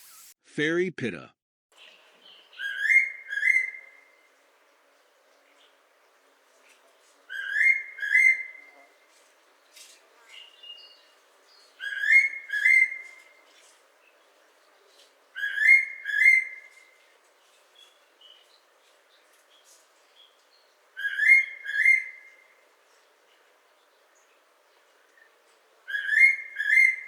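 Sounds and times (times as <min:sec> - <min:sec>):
faint chirps of other birds: 0:01.8 - 0:27.0.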